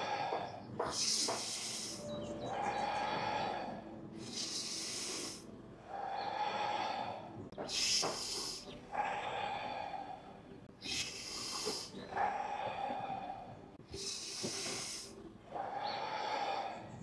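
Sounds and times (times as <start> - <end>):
person breathing deeply: 0.0 - 17.0.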